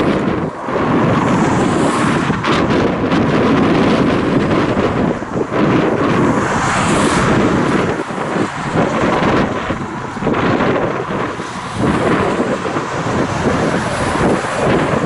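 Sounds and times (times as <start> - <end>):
road traffic passing: 0.0 - 15.0
wind buffeting microphone: 0.0 - 15.0.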